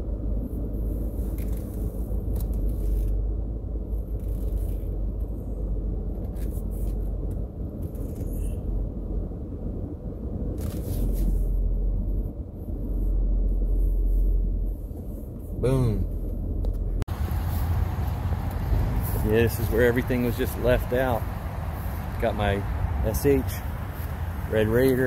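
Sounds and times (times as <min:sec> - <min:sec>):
truck engine and road rumble: 0:00.0 - 0:25.0.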